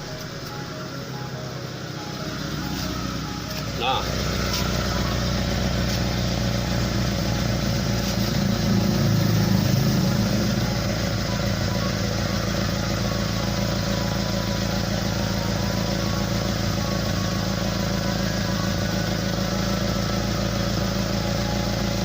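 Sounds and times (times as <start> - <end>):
pickup truck engine idling roughly: 0.0 - 22.0.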